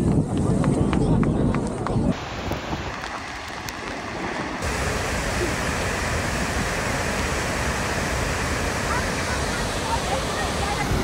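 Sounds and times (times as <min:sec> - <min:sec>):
outdoor noise: 0:00.0 - 0:11.0
waterfall roaring: 0:02.1 - 0:11.0.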